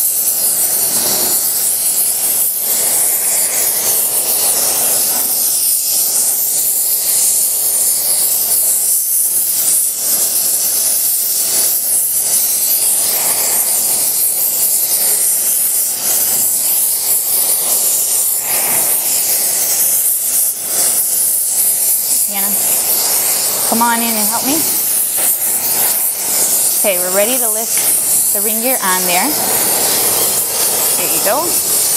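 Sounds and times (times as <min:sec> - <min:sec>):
gas torch flame hissing: 0:00.0 - 0:31.9.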